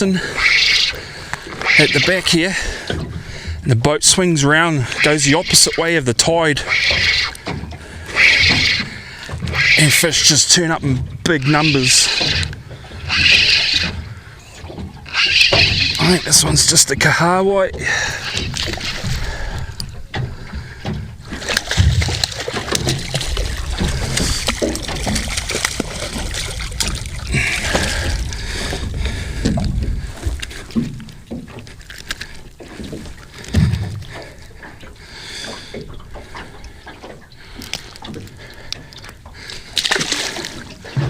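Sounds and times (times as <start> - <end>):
water splashing and sloshing: 0.0 - 41.0.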